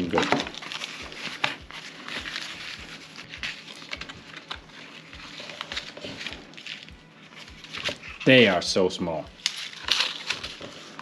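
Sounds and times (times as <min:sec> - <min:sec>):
packaging crinkling: 0:00.0 - 0:08.4, 0:09.3 - 0:11.0.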